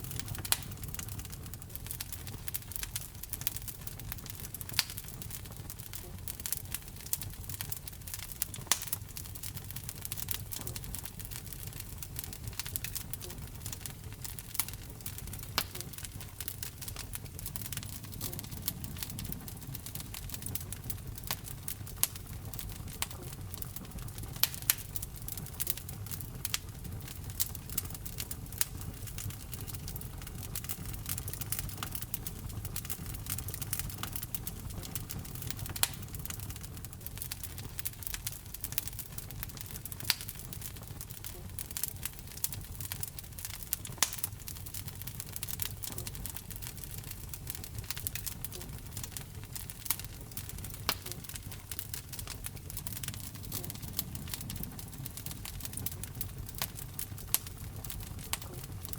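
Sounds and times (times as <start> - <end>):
fire crackling and popping: 0.0 - 58.9
wood fire burning: 0.0 - 58.9.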